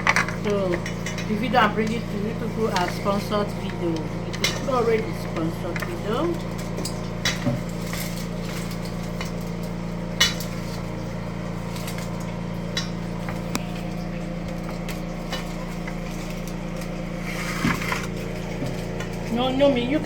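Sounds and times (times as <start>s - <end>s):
kitchen utensils clinking: 0.0s - 20.0s
steady low hum: 0.0s - 20.0s.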